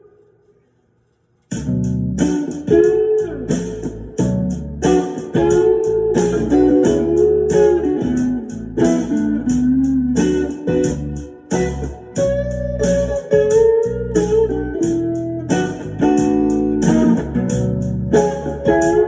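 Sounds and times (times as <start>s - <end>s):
bluesy electric guitar: 1.5s - 19.0s.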